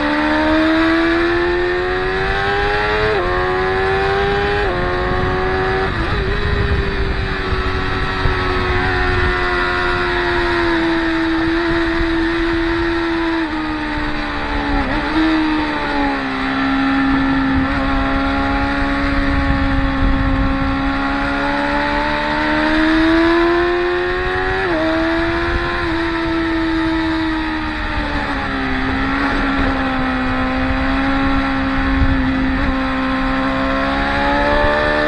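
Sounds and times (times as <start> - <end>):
motorcycles at high revs: 0.0 - 35.0.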